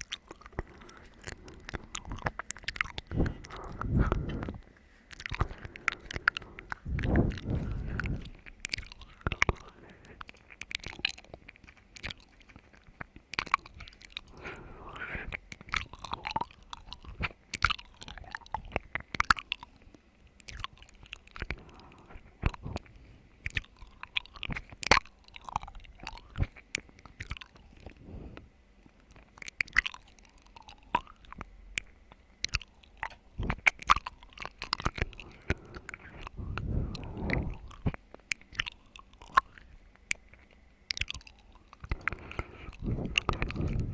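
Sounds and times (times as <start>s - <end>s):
wet chewing and crunching: 0.0s - 43.9s.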